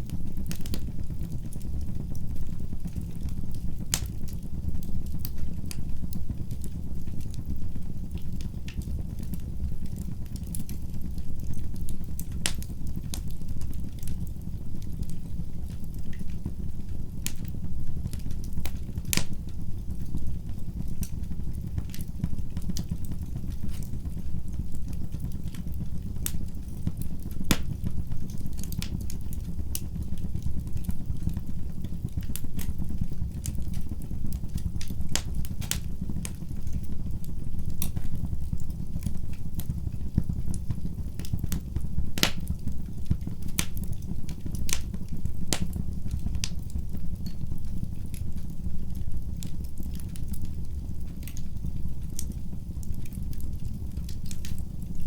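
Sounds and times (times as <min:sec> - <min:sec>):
fire pops and snaps: 0:00.0 - 0:55.0
low rumble of burning fire: 0:00.0 - 0:55.0.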